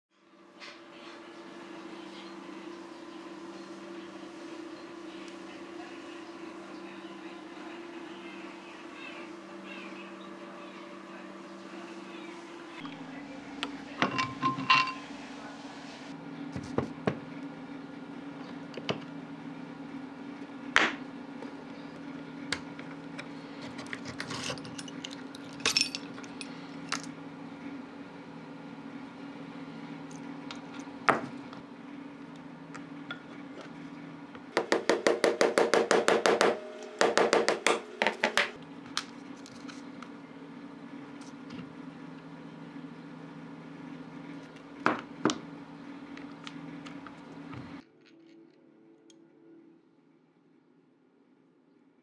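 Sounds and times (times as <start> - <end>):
steady low hum: 0.1 - 51.5.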